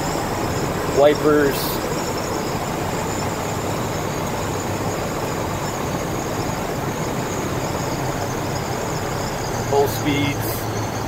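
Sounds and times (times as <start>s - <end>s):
engine humming in cab: 0.0s - 11.0s
road and tyre noise: 0.0s - 11.0s.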